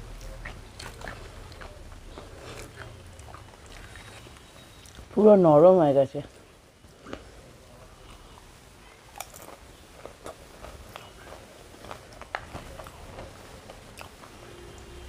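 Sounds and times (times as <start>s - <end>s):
chewing with wet bites and crunches: 0.0s - 5.2s, 8.0s - 14.9s.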